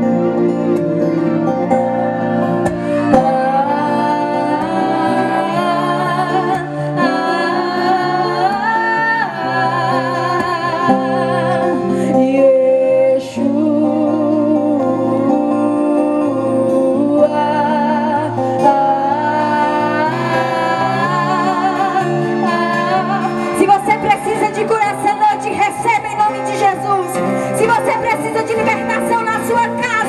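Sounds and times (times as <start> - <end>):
person singing long wavering notes: 0.0 - 27.6
instrumental accompaniment: 0.0 - 30.0.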